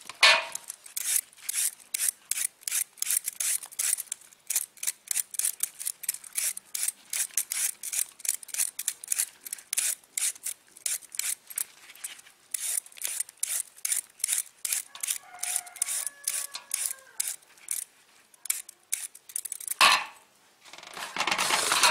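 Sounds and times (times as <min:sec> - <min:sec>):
vegetable peeler scraping carrot: 0:00.5 - 0:19.8.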